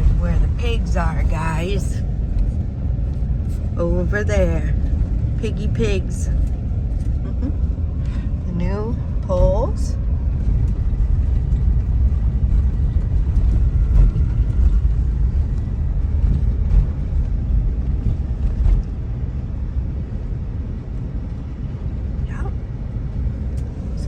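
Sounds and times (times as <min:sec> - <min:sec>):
car engine rumble: 0:00.0 - 0:24.0
road noise inside car: 0:00.0 - 0:24.0.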